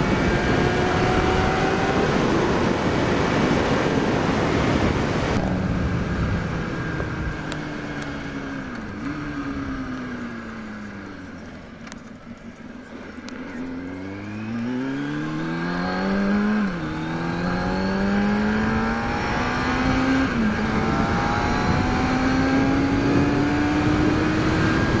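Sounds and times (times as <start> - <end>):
sport bike engine accelerating: 0.0 - 25.0.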